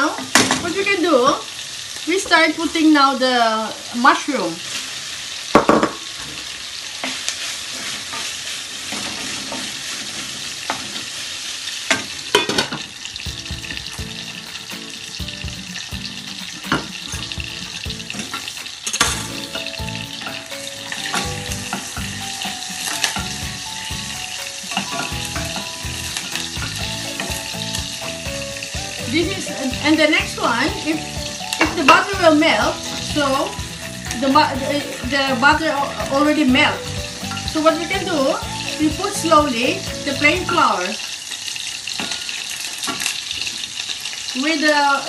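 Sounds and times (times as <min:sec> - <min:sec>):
bacon sizzling in a pan: 0:00.0 - 0:45.0.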